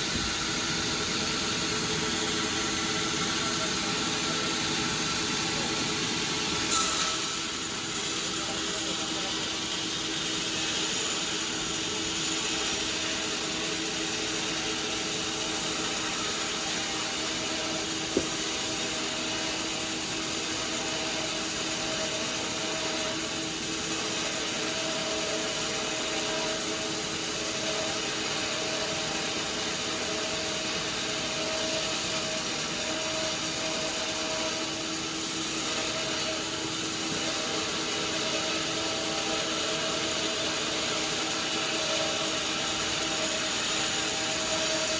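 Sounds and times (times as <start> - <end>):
sawmill machinery humming and whining: 0.0 - 44.9.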